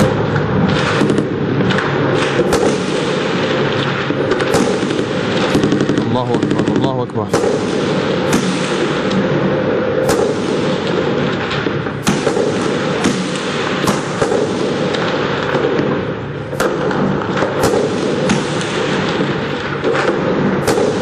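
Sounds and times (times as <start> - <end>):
gunfire cracks: 0.0 - 21.0.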